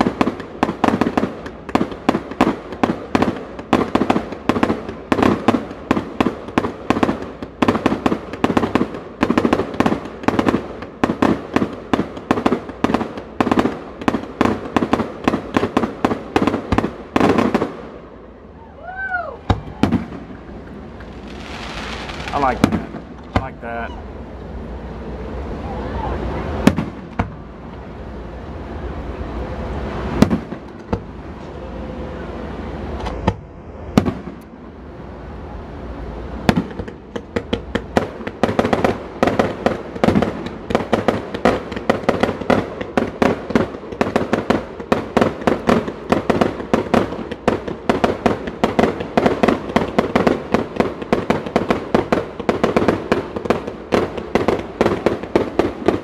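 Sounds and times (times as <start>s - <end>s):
fireworks bangs: 0.0s - 24.0s, 25.4s - 34.7s, 36.3s - 56.0s.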